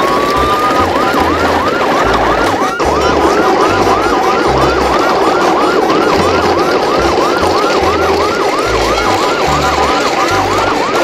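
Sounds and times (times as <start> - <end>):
electronic yelp siren: 0.0 - 11.0
low bass notes: 0.0 - 11.0.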